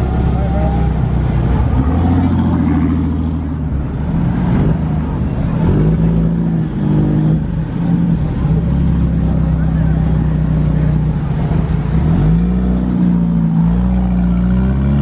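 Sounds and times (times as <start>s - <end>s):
vehicle engine revving: 0.0s - 15.0s
voices in background: 0.0s - 15.0s.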